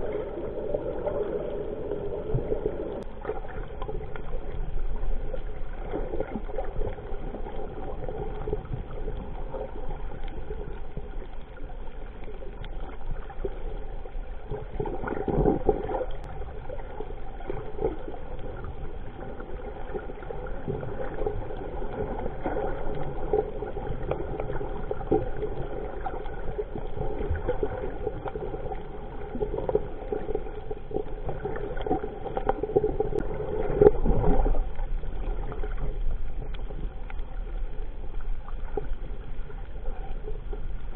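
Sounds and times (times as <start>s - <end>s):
underwater water gurgling: 0.0s - 40.9s.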